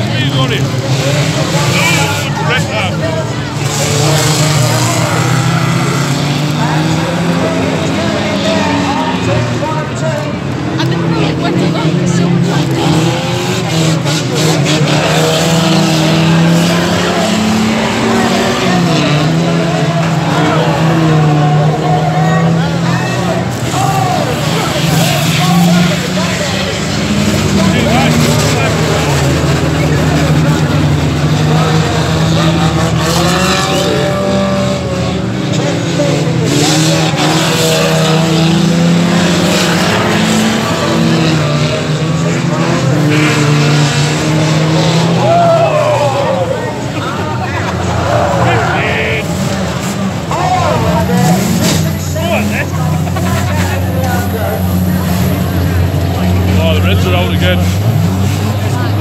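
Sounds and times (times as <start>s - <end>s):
racing car engines: 0.0s - 59.0s.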